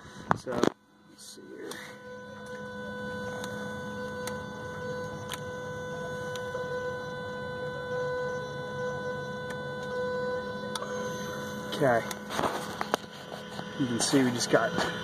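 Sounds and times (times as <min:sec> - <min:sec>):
fuel pump whining: 0:00.0 - 0:15.0.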